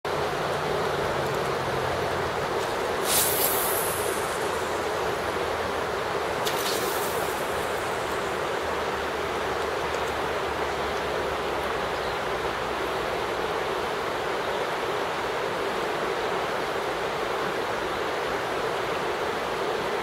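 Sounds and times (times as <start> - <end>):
river water rushing: 0.1 - 20.0.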